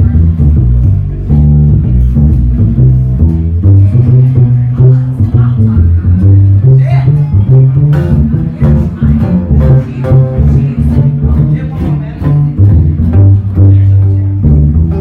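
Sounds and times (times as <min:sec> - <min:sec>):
bluegrass band playing: 0:00.0 - 0:15.0
plucked upright bass: 0:00.0 - 0:15.0.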